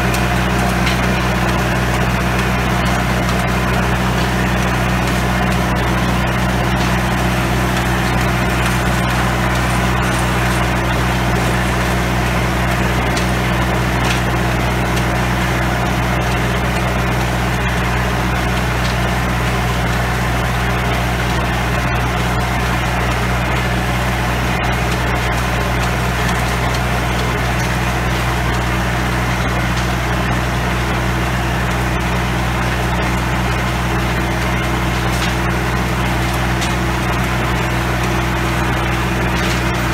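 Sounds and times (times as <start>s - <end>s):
rotavator tilling soil: 0.0s - 39.9s
tractor diesel engine running: 0.0s - 39.9s.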